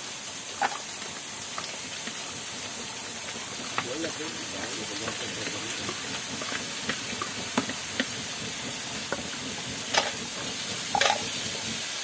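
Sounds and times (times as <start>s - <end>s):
greens sizzling in a wok: 0.0s - 12.0s.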